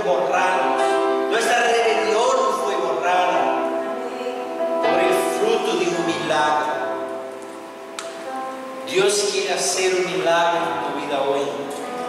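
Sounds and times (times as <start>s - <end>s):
electronic keyboard chords: 0.0s - 12.0s.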